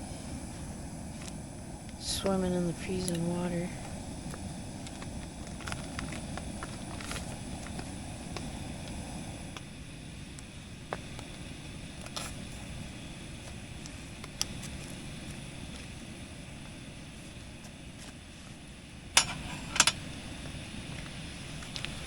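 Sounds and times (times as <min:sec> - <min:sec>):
low rumbling noise: 0:00.0 - 0:22.0.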